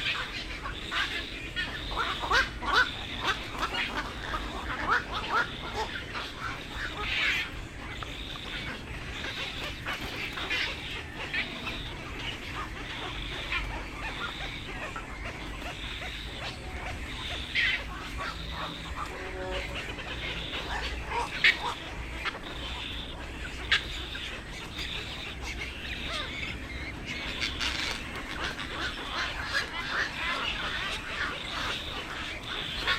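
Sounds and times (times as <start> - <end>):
birds squawking and chattering: 0.0 - 32.9
low steady hum: 0.0 - 32.9.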